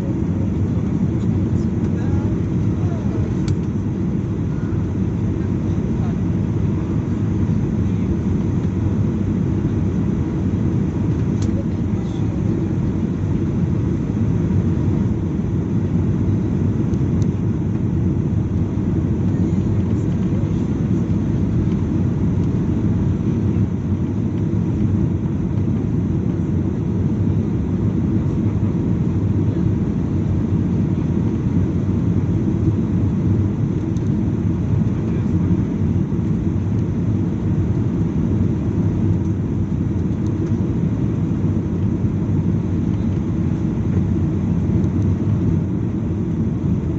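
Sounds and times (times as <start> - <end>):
airliner cabin engine roar: 0.0 - 46.9.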